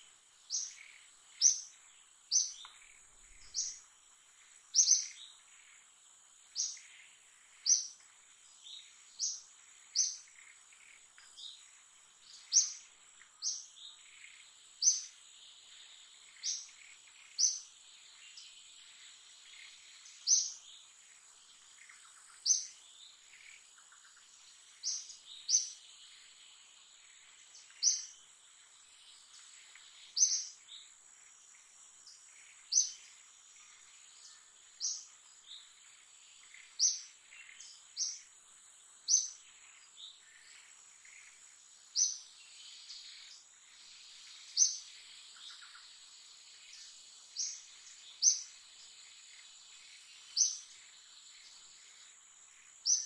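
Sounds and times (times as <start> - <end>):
small bird chirping: 0.0 - 53.0.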